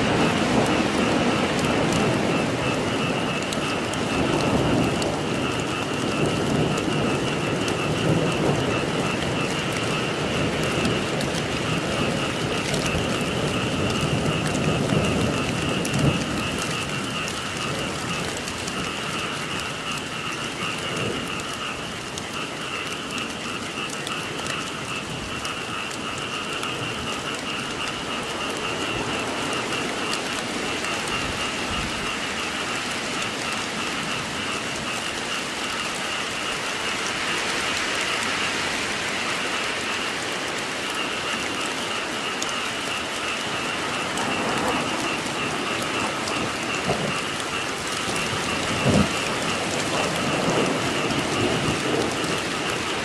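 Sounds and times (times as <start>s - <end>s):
frogs trilling: 0.0s - 53.0s
steady rain: 0.0s - 53.0s.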